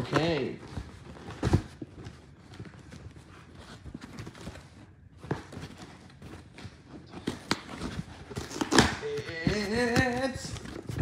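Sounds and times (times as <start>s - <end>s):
packaging rustling and clicking: 0.0s - 11.0s.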